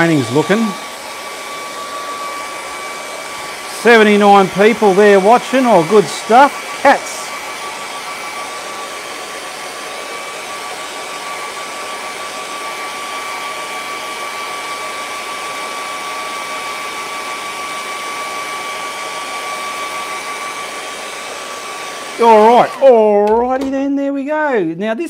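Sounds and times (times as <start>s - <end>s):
hair dryer blowing: 0.0s - 23.7s.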